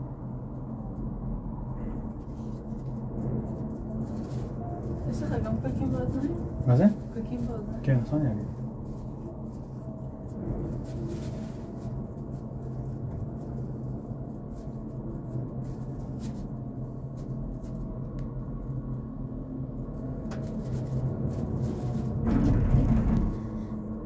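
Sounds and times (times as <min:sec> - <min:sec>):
cable car gondola hum: 0:00.0 - 0:24.0
low rumble: 0:00.0 - 0:24.0.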